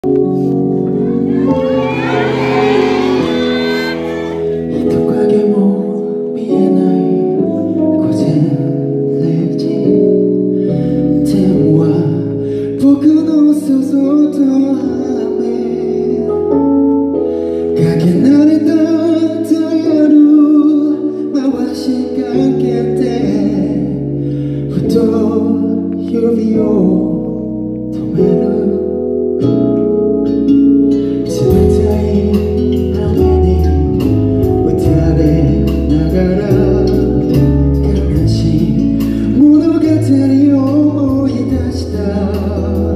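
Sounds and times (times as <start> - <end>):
man singing into microphone: 1.4 - 10.4, 11.0 - 16.8, 17.7 - 29.2, 31.2 - 42.9.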